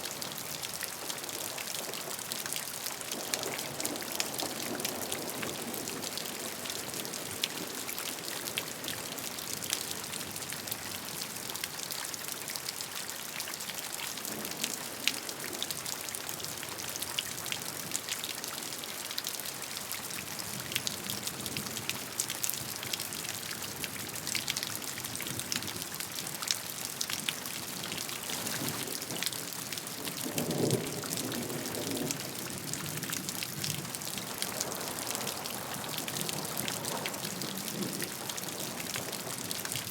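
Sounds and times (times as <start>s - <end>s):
raindrops ticking on a surface: 0.0s - 39.9s
steady rain: 0.0s - 39.9s.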